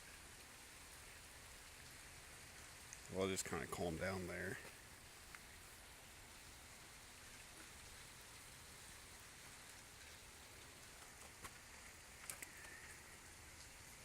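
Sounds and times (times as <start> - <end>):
faint pouring rain: 0.0 - 14.0.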